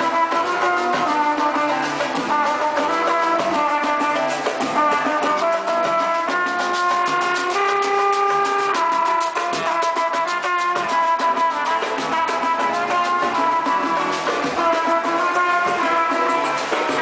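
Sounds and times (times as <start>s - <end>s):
samba rock music: 0.0s - 17.0s.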